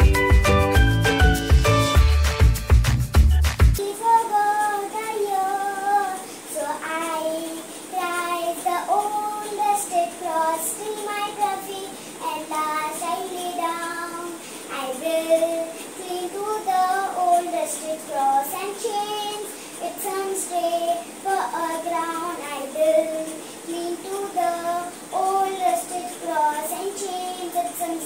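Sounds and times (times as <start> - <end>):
girl singing solo: 3.8 - 28.0.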